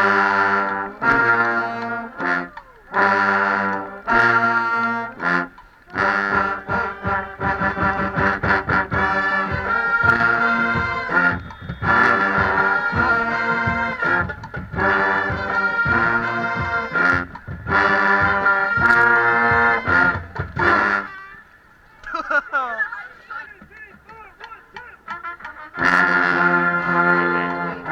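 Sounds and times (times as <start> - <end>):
marching band brass playing: 0.0 - 21.8, 23.1 - 27.9.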